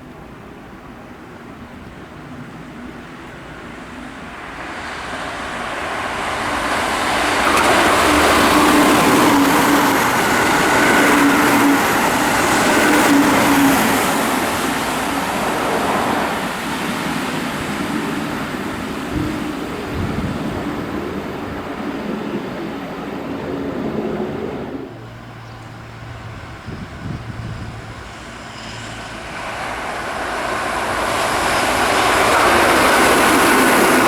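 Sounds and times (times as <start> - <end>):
electric train passing at speed: 0.0 - 34.0.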